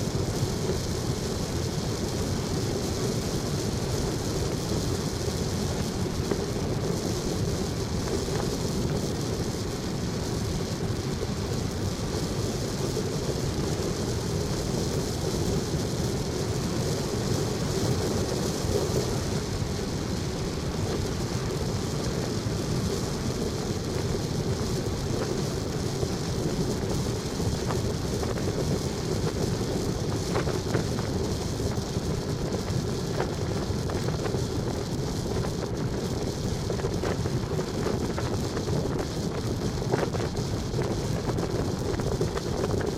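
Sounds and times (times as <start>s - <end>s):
vehicle rumble and hiss: 0.0s - 42.9s
wind noise on microphone: 0.0s - 42.9s.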